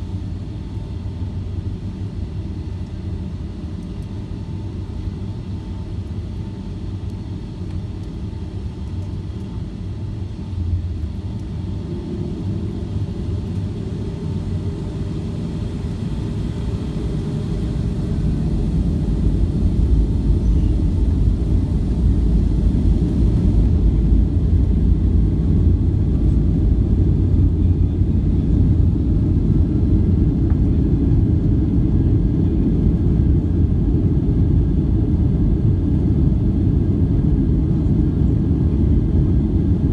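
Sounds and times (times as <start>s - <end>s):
airliner low rumble: 0.0s - 39.9s.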